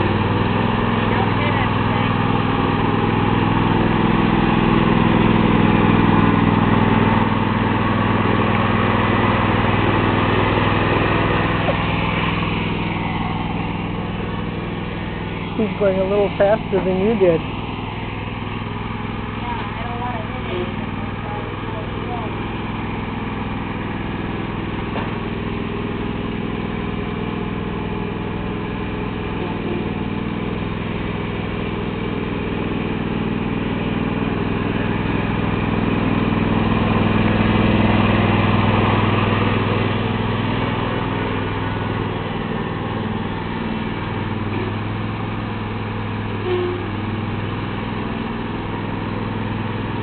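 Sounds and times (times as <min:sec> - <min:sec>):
lawn tractor engine running: 0:00.0 - 0:50.0.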